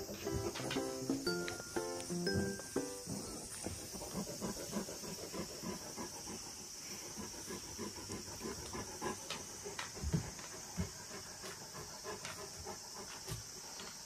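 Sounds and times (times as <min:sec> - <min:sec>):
dog panting: 0:00.0 - 0:01.5, 0:03.1 - 0:14.0
steady high hiss: 0:00.0 - 0:14.0.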